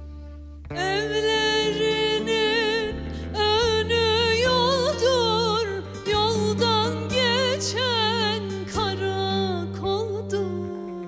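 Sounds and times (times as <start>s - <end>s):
instrumental accompaniment: 0.0s - 11.0s
woman singing folk song: 0.2s - 11.0s.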